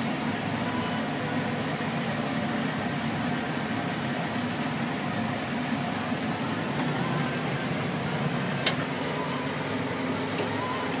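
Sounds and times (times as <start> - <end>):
machinery engine drone: 0.0 - 11.0.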